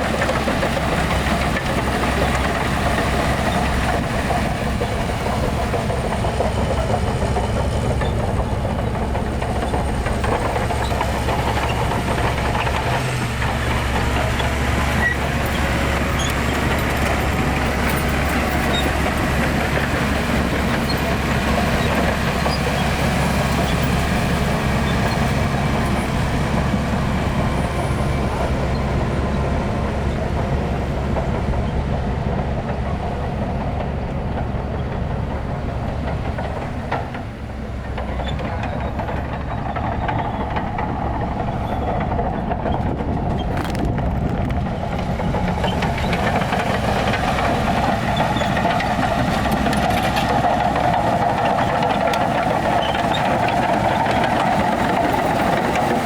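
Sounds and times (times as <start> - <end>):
heavy diesel engine rumbling: 0.0 - 56.0.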